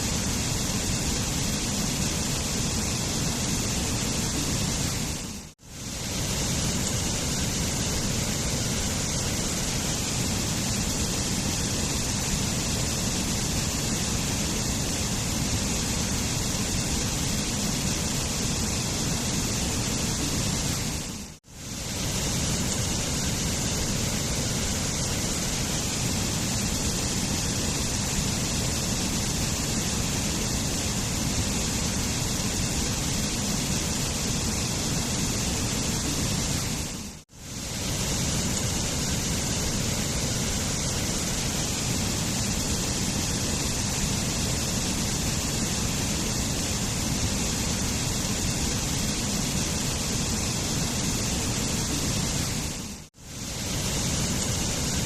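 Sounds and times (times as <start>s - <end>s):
waterfall pouring: 0.0s - 55.0s.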